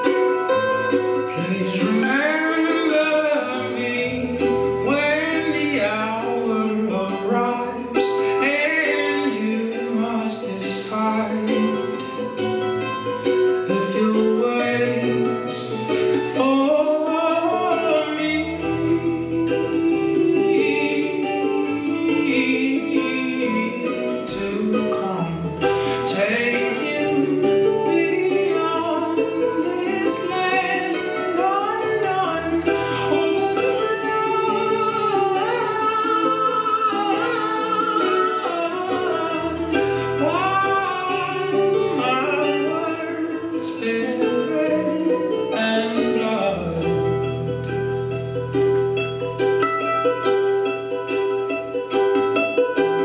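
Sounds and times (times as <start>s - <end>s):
person singing: 0.0s - 53.0s
plucked strings: 0.0s - 53.0s.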